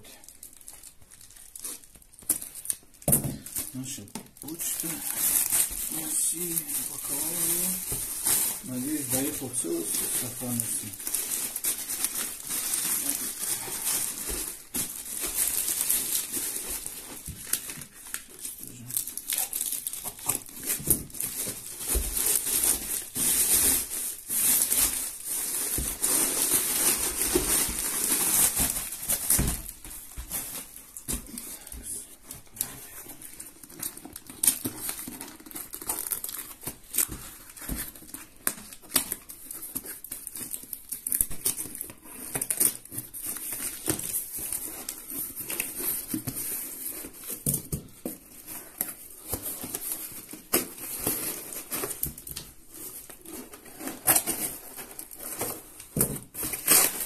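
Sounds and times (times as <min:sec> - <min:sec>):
plastic sack rustling and crinkling: 0:00.1 - 0:57.0.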